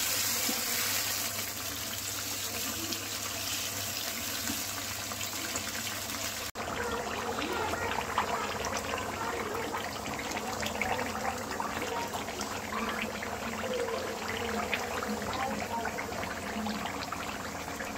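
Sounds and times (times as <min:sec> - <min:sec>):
curry sizzling in a pan: 0:00.0 - 0:17.9.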